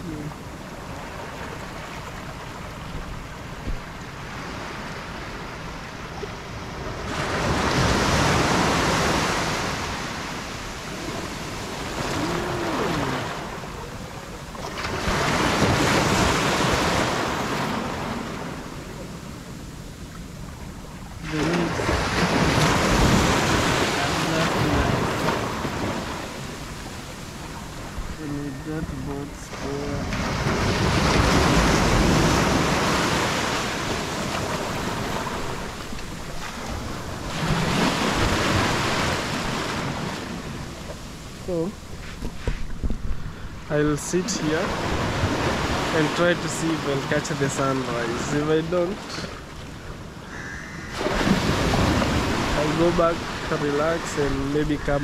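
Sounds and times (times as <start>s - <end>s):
low wind rumble: 0.0s - 46.0s, 49.4s - 55.0s
ocean waves breaking: 0.0s - 55.0s.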